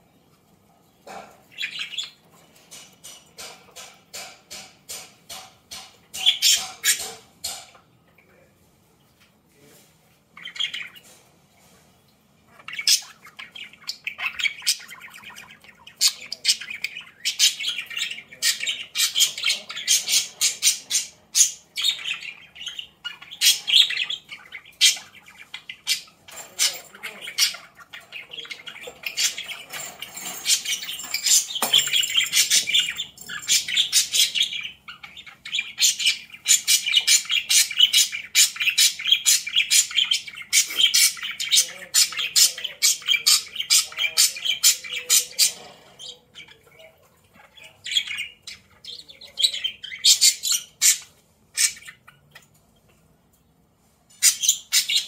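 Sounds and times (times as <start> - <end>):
budgies chattering and chirping: 0.8 - 8.6, 9.7 - 55.0.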